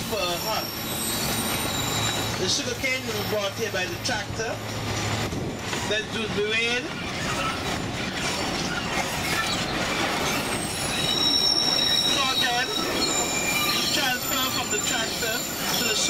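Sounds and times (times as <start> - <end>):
train rumbling: 0.0 - 16.0
wheels squealing against rails: 0.0 - 16.0.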